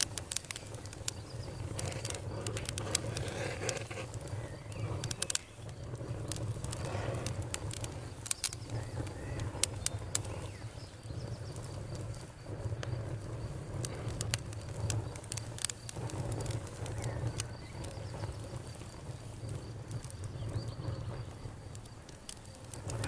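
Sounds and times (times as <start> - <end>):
campfire crackling and popping: 0.0 - 23.0
faint insect drone: 0.0 - 23.0.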